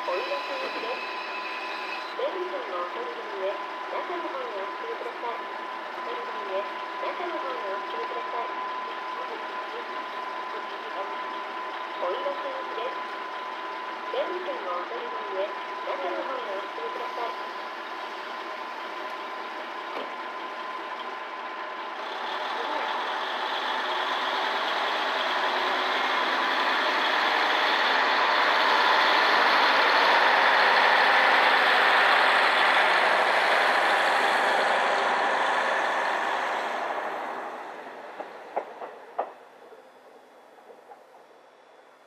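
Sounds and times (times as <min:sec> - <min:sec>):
diesel train engine: 0:00.0 - 0:42.0.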